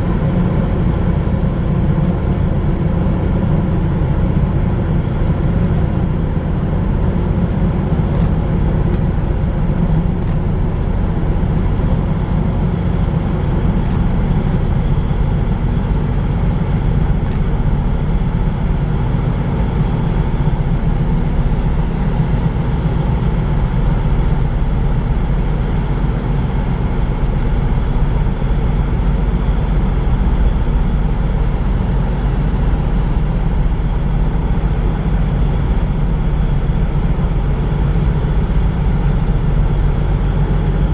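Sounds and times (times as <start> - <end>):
ship engine drone: 0.0 - 40.9.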